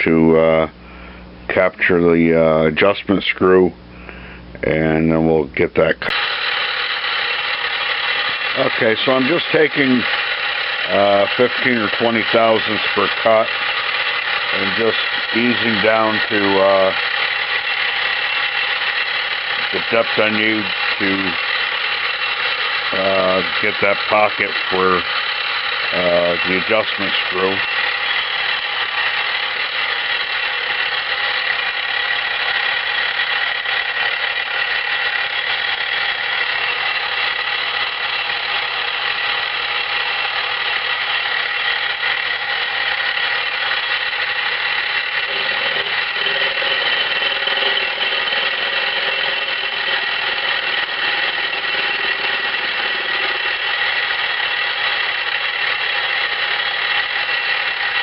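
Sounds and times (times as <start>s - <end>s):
milling machine whine and squeal: 6.1s - 58.0s.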